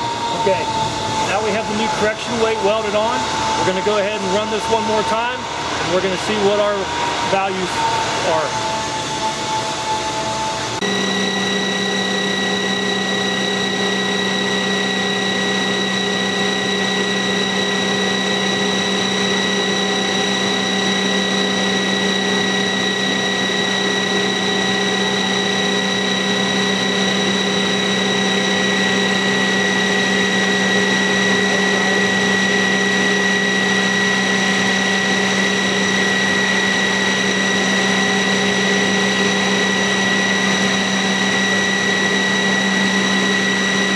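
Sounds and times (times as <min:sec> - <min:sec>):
mulcher rotor humming and whining: 0:00.0 - 0:43.9.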